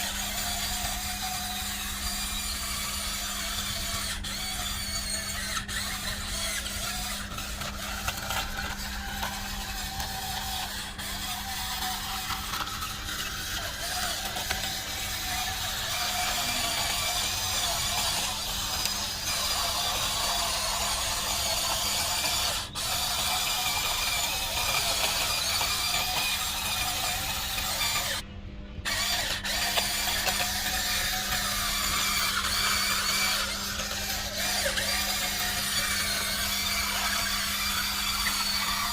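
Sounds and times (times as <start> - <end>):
toy motors whirring and grinding: 0.0 - 38.9.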